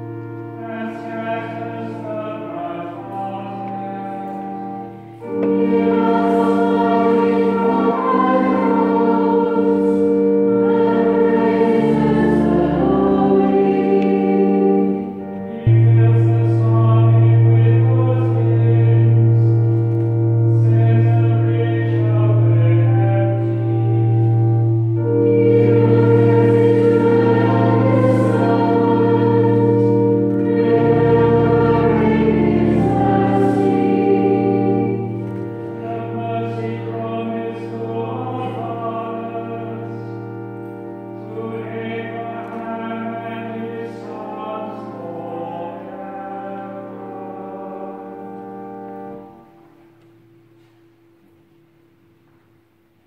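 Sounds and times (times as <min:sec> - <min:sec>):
choral church music: 0:00.0 - 0:53.0.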